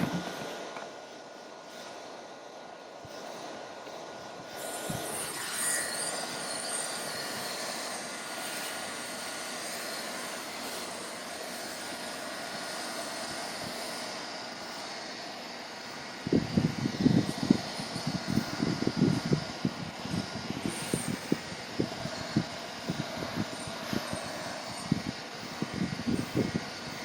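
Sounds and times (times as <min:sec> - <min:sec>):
heat gun blowing: 0:00.0 - 0:27.0.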